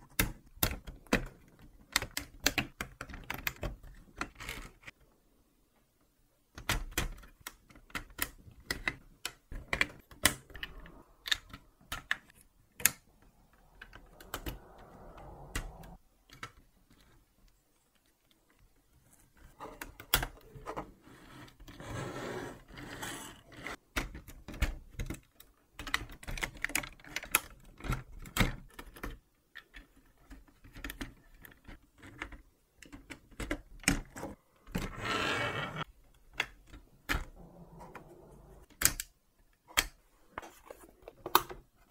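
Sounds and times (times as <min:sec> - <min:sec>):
plastic parts clicking and snapping: 0:00.0 - 0:05.1, 0:05.8 - 0:21.8, 0:23.7 - 0:34.9, 0:35.8 - 0:41.9.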